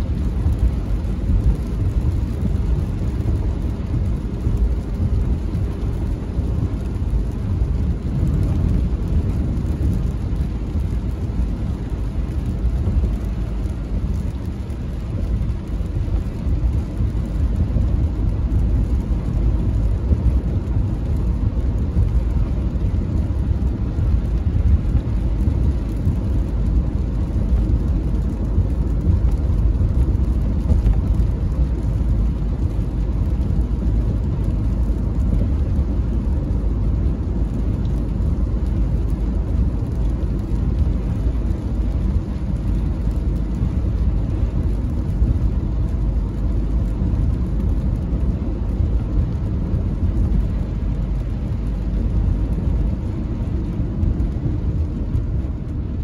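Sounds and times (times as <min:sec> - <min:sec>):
car driving on wet road: 0:00.0 - 0:56.0
rain on car: 0:00.0 - 0:56.0.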